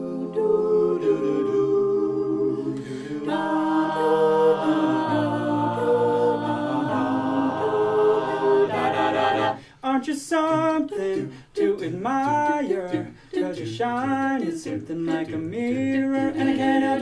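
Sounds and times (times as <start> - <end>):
a cappella group singing chords: 0.0 - 17.0.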